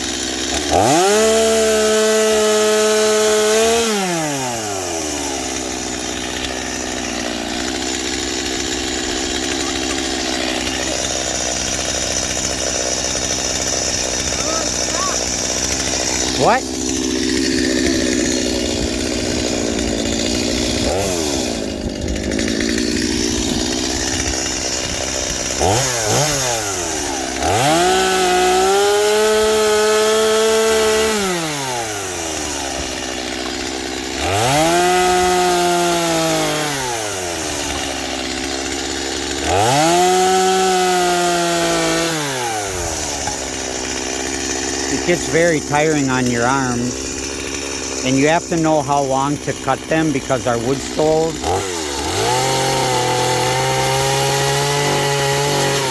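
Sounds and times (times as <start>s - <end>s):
chainsaw revving: 0.0s - 55.9s.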